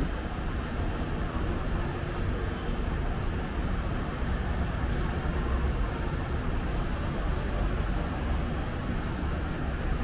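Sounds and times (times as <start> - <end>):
traffic rumble on expressway: 0.0 - 10.0.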